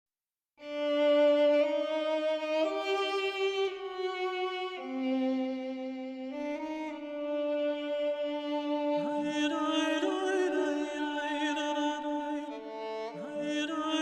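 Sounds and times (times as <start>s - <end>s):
slow bowed string melody: 0.6s - 14.0s.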